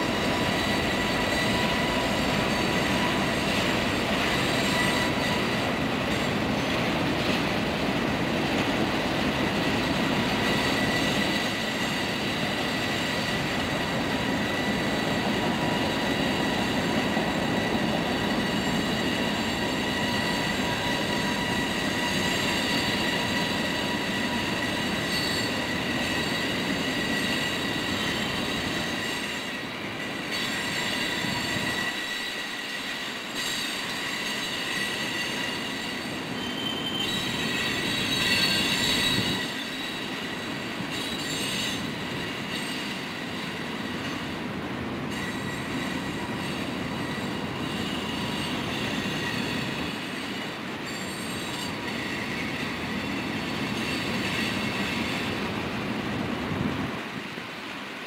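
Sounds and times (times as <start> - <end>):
high-pitched wheel squeal: 0.0 - 7.6, 9.0 - 44.4, 45.0 - 55.5
train wheels rumbling on rails: 0.0 - 58.0.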